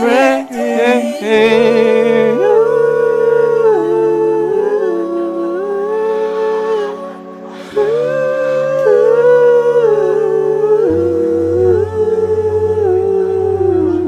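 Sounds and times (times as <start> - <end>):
low sustained accompaniment: 0.0 - 14.0
voice humming slow melody: 0.0 - 14.0.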